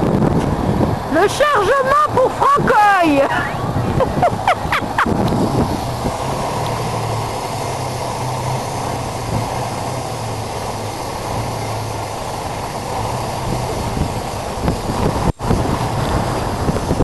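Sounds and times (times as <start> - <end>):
diesel engine idling: 0.0 - 17.0
wind on microphone: 0.0 - 17.0.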